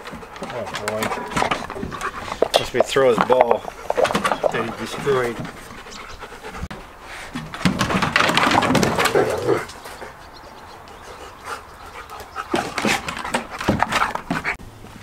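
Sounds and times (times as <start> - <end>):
dogs playing and vocalizing: 0.0 - 14.6.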